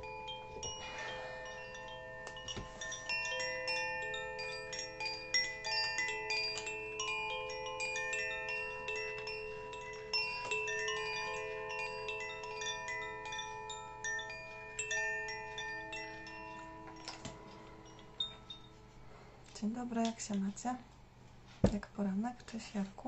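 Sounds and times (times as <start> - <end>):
bamboo chime ringing: 0.0 - 19.2.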